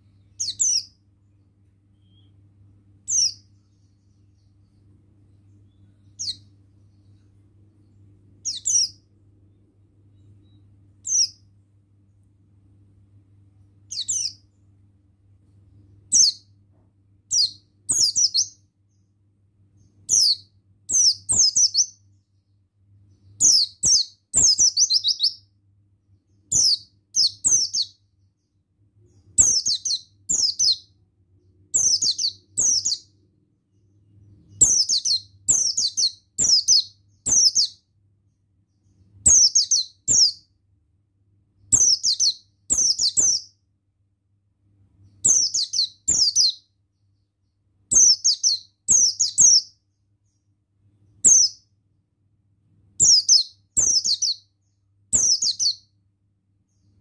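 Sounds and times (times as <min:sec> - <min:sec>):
bird chirping: 0:00.0 - 0:40.8, 0:41.5 - 0:43.7, 0:44.8 - 0:51.8, 0:53.0 - 0:57.0
faint low hum: 0:00.0 - 0:57.0.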